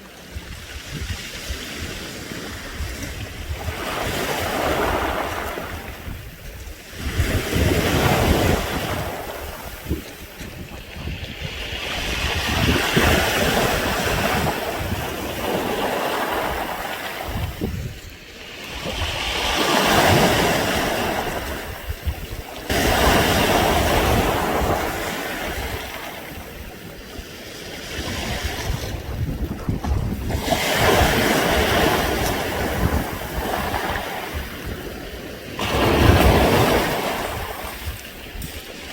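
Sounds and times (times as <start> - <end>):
waves rattling pebbles: 0.0 - 38.9
wind rumble on microphone: 0.0 - 38.9.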